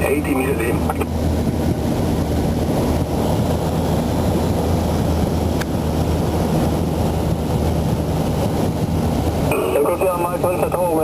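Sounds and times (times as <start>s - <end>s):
aircraft engine and propeller droning: 0.0s - 11.0s.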